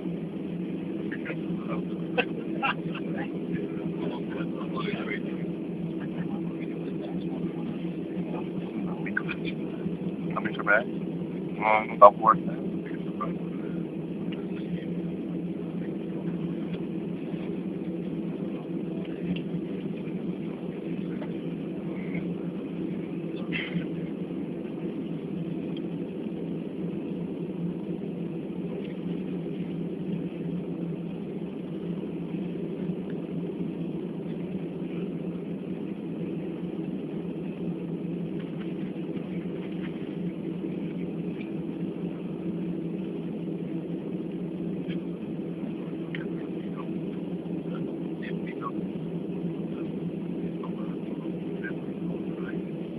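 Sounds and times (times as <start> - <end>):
airliner cabin drone: 0.0 - 52.9.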